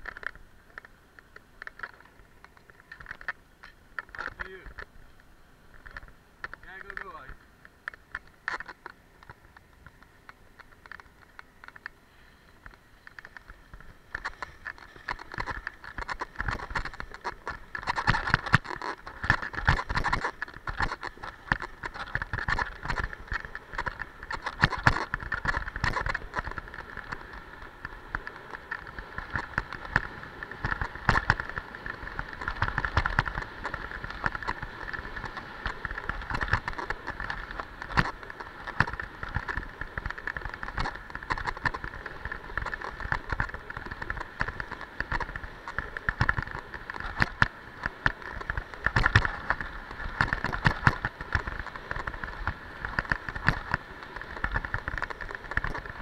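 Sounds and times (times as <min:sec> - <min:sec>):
skis scraping over packed snow: 0:04.3 - 0:04.7, 0:11.2 - 0:56.0.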